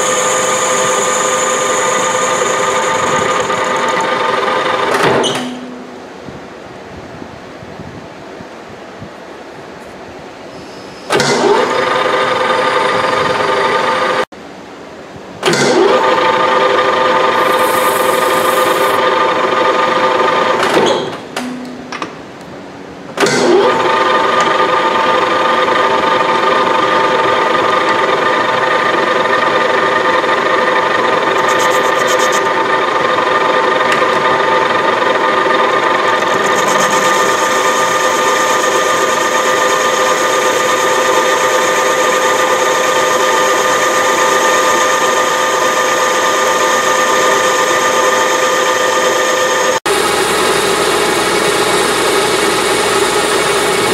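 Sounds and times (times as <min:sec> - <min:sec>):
metal lathe ringing whine: 0:00.0 - 0:06.2, 0:10.6 - 0:14.3, 0:15.5 - 0:20.6, 0:23.3 - 0:53.9.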